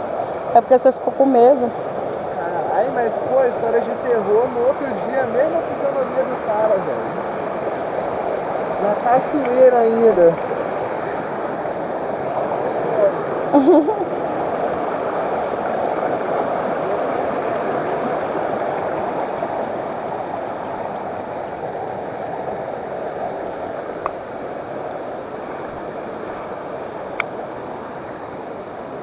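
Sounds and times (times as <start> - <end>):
waterfall and stream rushing: 0.0 - 29.0.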